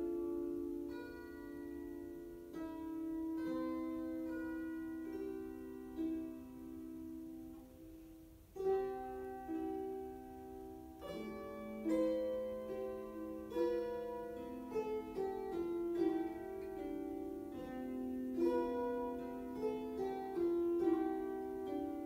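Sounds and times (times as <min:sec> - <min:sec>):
lyres plucked playing chords: 0:00.0 - 0:22.0.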